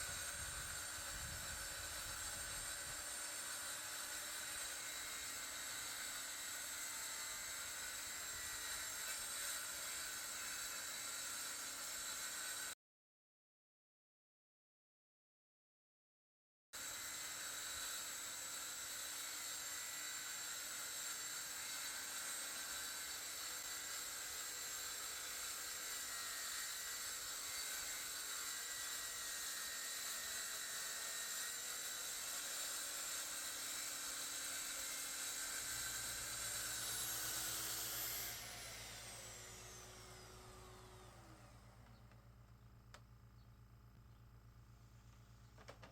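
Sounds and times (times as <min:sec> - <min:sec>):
power tool motor whining: 0:00.0 - 0:12.7, 0:16.8 - 0:43.0.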